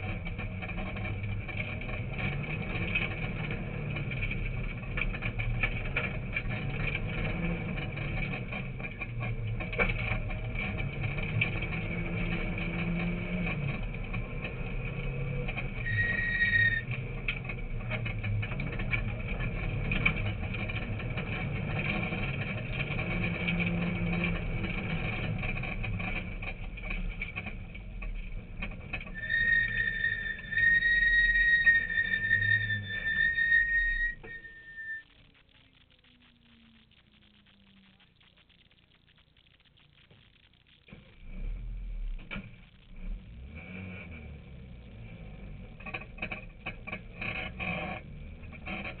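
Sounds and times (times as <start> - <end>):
rally car engine revving: 0.0 - 35.0, 40.9 - 49.0.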